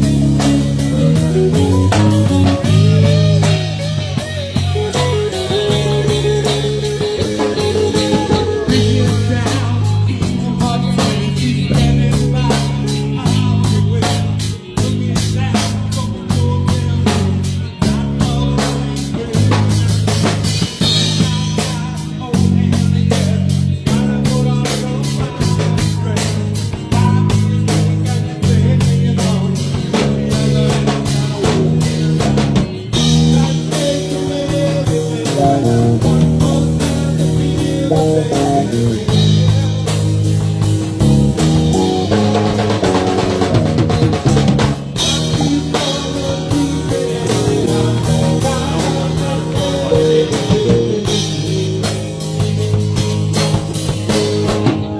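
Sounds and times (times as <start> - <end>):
bass guitar: 0.0 - 54.9
drum kit beat: 0.0 - 54.9
electric guitar: 0.0 - 54.9.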